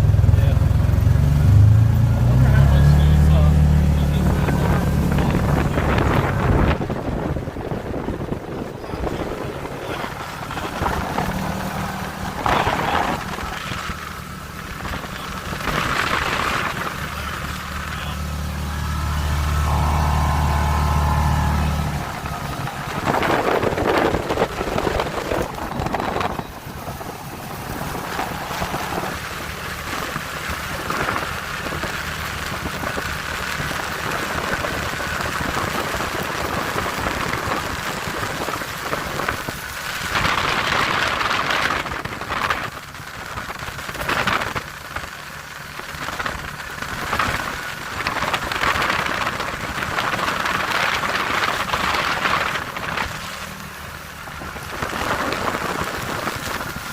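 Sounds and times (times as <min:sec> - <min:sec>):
atv engine running: 0:00.0 - 0:56.9
wind noise on microphone: 0:04.1 - 0:56.9.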